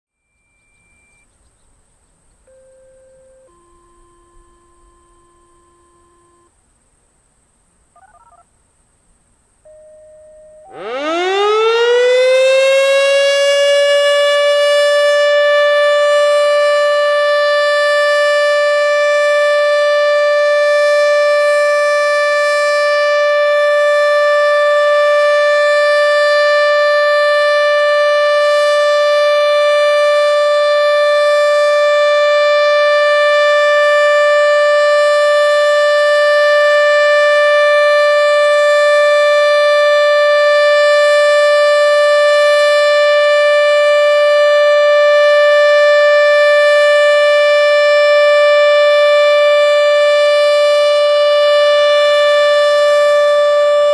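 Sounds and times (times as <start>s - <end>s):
mechanical warning siren: 0.1s - 1.4s, 2.4s - 6.6s, 9.6s - 53.9s.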